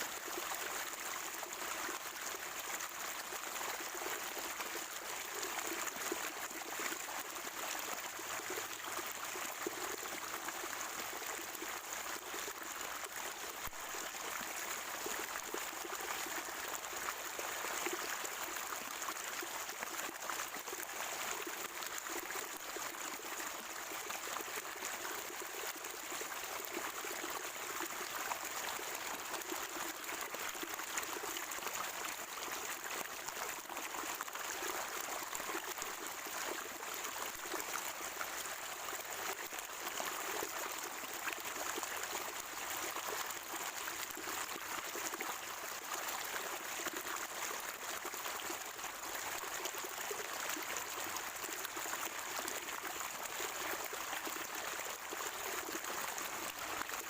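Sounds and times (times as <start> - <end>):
spring water trickling and gurgling: 0.0 - 57.0.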